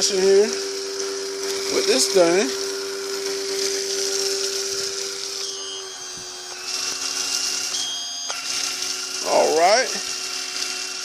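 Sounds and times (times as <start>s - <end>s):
pressure washer spraying foam: 0.0s - 11.0s
whining motor: 0.0s - 11.0s.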